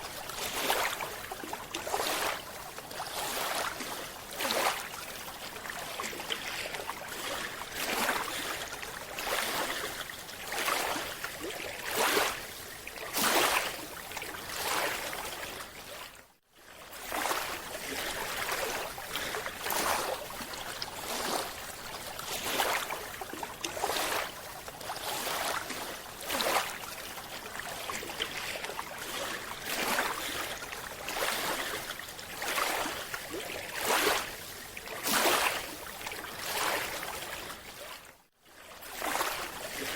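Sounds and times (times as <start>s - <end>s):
water rushing and sloshing: 0.0s - 39.9s.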